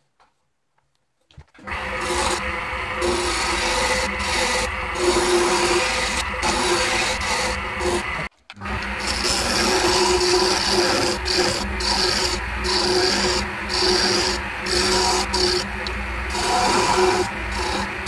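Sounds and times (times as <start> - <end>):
chisel scraping spinning wood: 1.6 - 18.0
lathe motor humming: 1.6 - 18.0.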